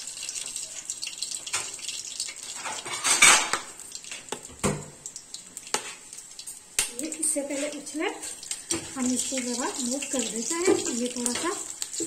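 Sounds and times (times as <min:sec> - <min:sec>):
seeds sizzling in hot oil: 0:00.0 - 0:12.0.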